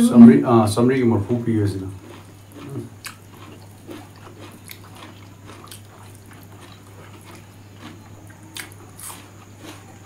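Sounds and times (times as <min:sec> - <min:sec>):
people chewing food: 0:00.0 - 0:10.0
steady low hum: 0:00.0 - 0:10.0.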